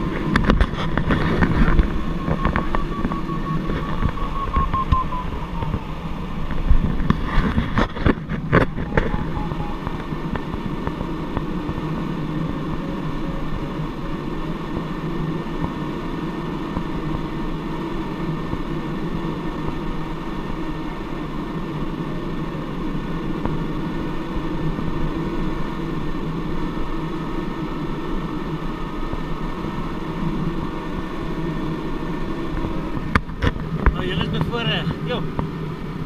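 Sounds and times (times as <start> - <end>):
rush of airflow over canopy: 0.0 - 36.0.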